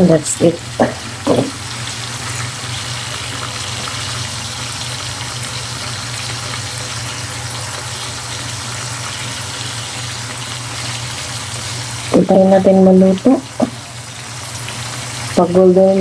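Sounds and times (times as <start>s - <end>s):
oil sizzling in a wok: 0.0s - 16.0s.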